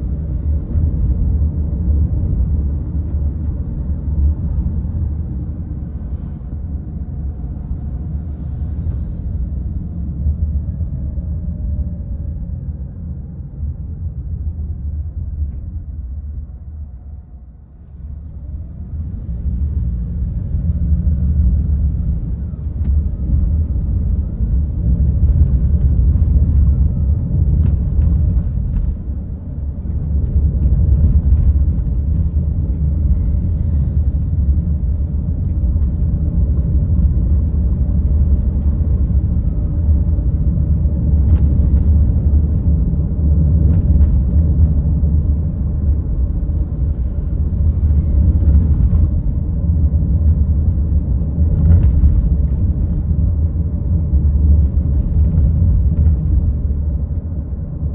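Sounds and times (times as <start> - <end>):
car engine and road noise: 0.0 - 57.9.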